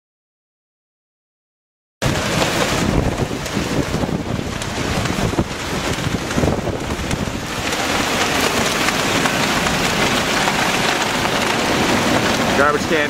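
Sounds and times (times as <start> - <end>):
heavy rain hiss: 2.0 - 13.0
wind buffeting microphone: 2.0 - 13.0.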